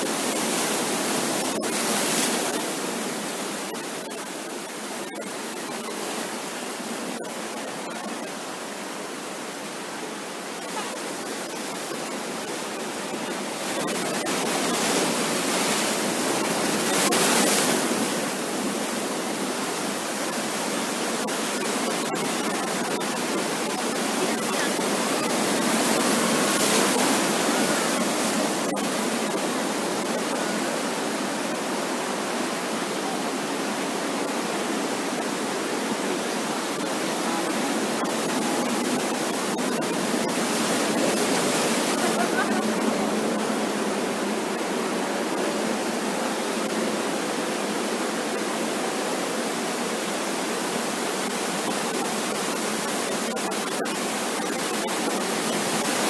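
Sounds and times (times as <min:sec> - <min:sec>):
surf washing onto beach: 0:00.0 - 0:56.0.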